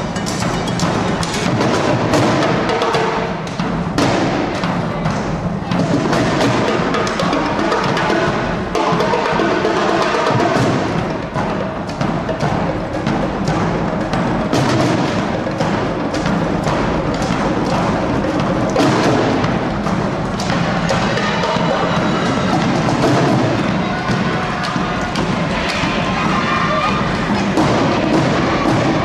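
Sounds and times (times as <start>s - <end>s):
rapid drum cadence: 0.0s - 29.0s.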